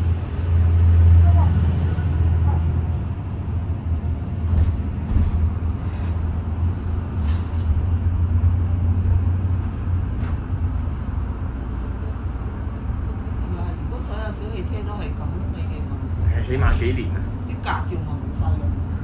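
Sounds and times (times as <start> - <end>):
bus cabin low rumble: 0.0 - 19.0.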